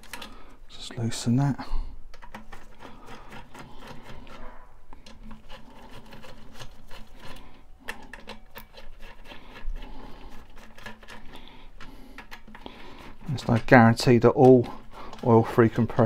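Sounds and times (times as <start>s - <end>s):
hex tool loosening screws: 2.2s - 4.4s, 5.0s - 16.0s.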